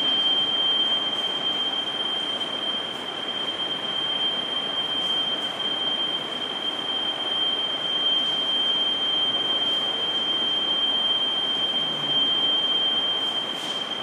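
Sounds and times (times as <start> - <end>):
long high-pitched beep: 0.0 - 14.0.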